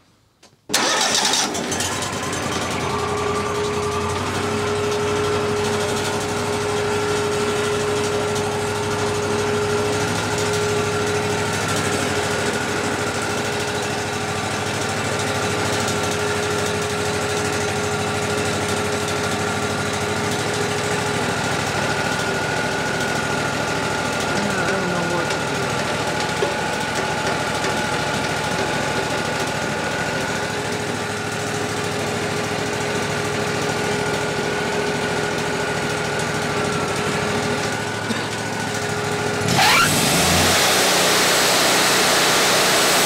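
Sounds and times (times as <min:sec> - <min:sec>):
sawmill engine running: 0:00.7 - 0:43.0.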